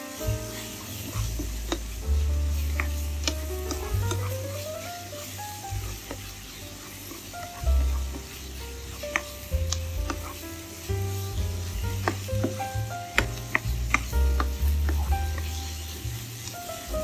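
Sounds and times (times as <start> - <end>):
background music with bass: 0.0 - 17.0
food sizzling in pan: 0.0 - 17.0.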